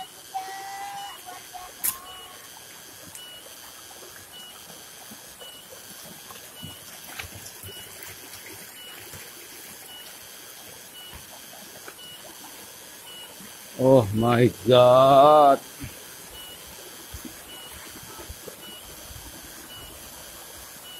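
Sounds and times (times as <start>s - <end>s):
stream trickling over stones: 0.0s - 20.9s.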